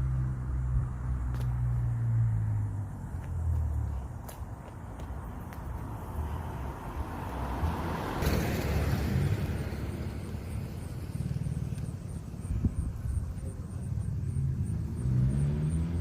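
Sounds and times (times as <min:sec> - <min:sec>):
car engine and exhaust rumble: 0:00.0 - 0:16.0.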